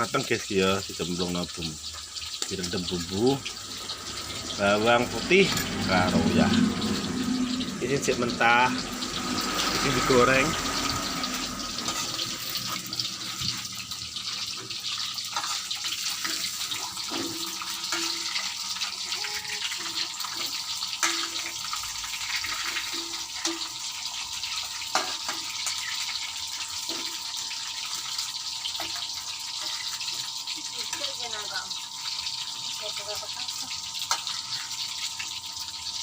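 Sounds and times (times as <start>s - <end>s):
cassava sizzling in hot oil: 0.0s - 36.0s.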